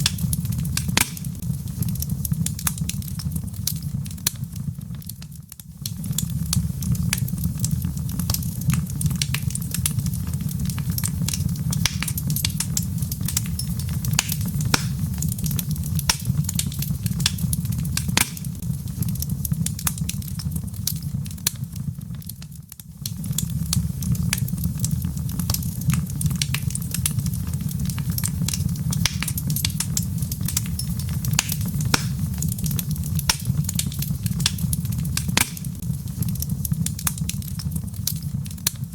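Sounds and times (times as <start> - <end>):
logs crackling and popping: 0.0 - 38.9
low fire rumble: 0.0 - 38.9.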